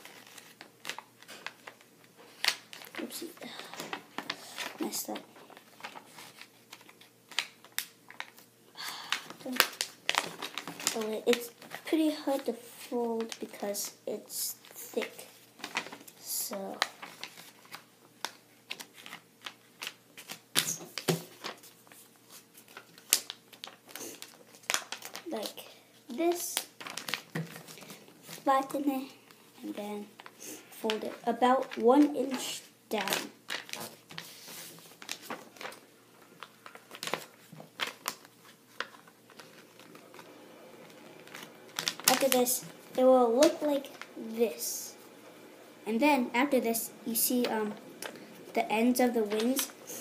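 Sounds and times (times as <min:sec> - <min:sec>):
paper being folded: 0:00.0 - 0:08.5, 0:09.1 - 0:14.0, 0:14.6 - 0:45.8, 0:46.4 - 0:50.0.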